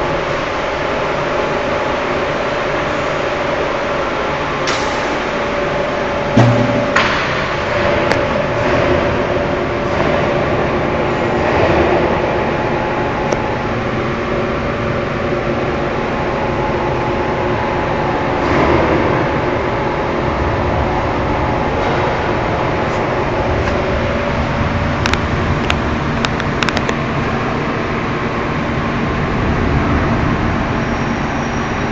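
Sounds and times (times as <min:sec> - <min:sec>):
machine humming: 0:00.0 - 0:31.9.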